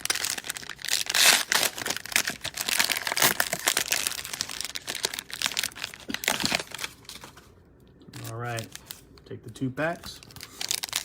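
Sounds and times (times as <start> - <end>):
plastic wrappers crinkling: 0.0 - 7.4, 8.1 - 11.0.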